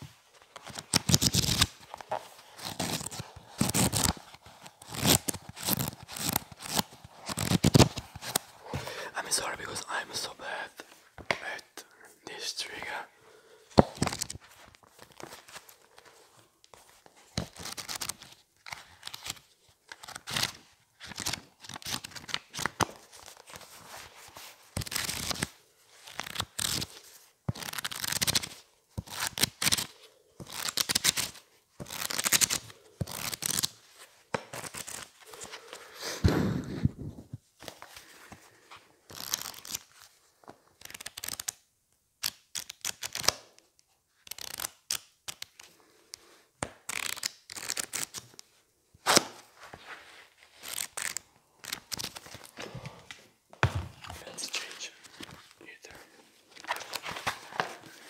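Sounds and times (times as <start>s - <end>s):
book pages riffling: 0.3s - 9.0s, 13.7s - 41.6s, 44.2s - 58.0s.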